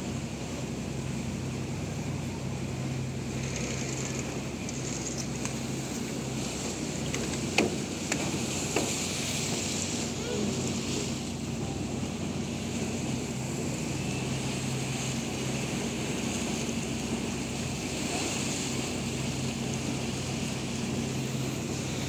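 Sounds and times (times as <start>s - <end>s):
boat engine humming: 0.0s - 22.0s
water washing along hull: 0.0s - 22.0s.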